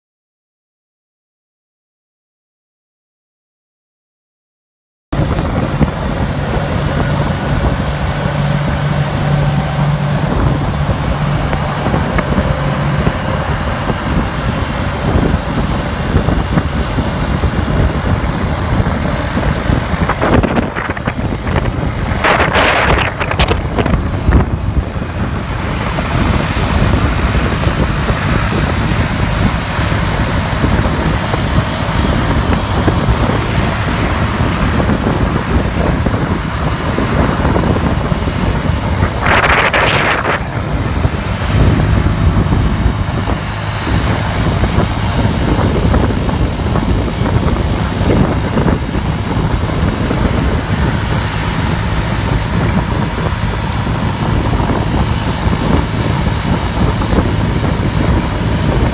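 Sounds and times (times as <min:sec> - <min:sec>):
road traffic: 0:05.1 - 0:58.9
motorcycle engine: 0:05.2 - 0:58.9
wind buffeting microphone: 0:05.2 - 0:58.9.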